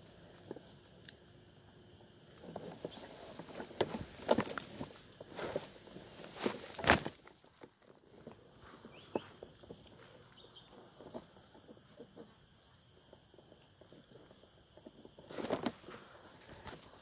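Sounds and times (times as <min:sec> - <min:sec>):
small clicks and rustles: 0:02.2 - 0:17.0.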